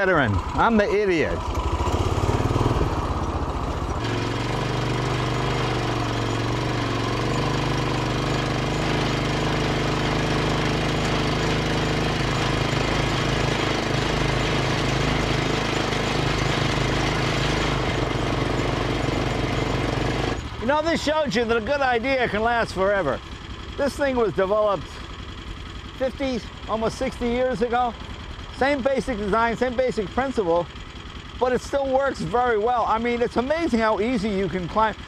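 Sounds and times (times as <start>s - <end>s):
motorcycle engine under load: 0.0s - 35.0s.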